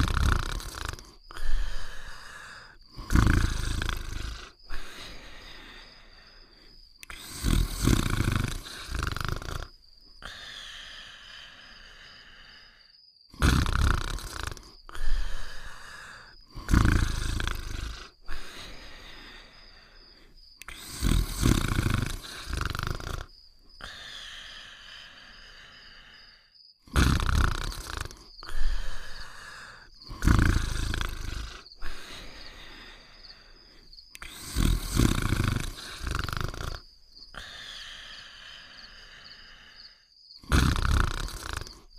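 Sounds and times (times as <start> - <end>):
cartoon dog snoring: 0.0 - 6.4, 7.0 - 20.0, 20.6 - 33.6, 34.2 - 41.9.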